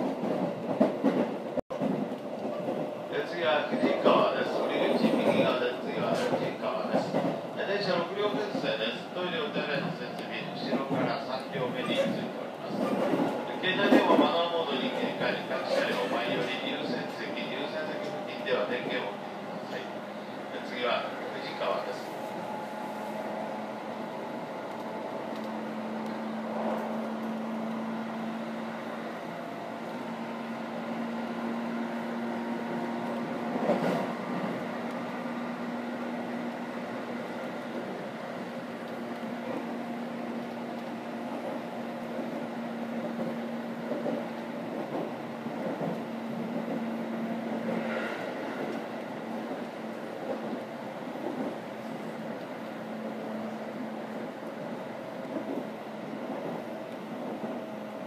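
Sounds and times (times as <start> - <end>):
electric train running rumble: 0.0 - 58.0.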